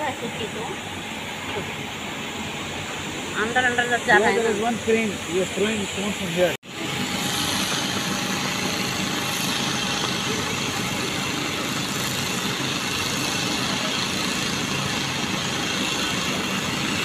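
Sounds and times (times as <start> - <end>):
stone-cutting machinery drone: 3.3 - 17.0.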